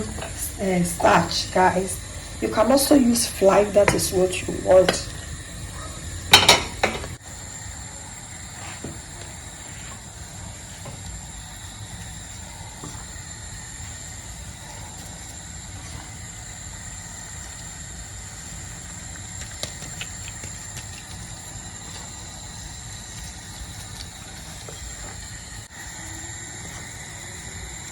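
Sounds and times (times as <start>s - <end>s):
steady low hum: 0.0s - 27.9s
thin high whine: 0.0s - 27.9s.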